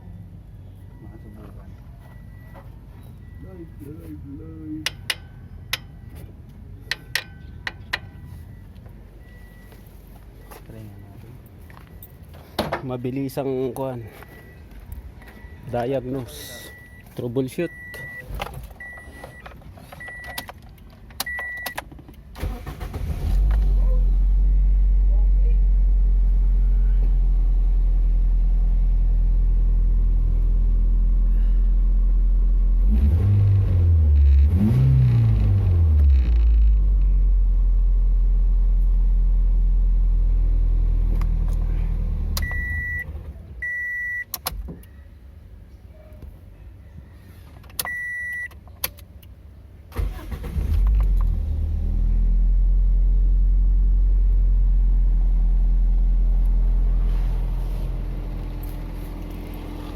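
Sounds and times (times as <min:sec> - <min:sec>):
car engine idling and revving: 0:00.0 - 0:45.7, 0:47.6 - 0:59.9.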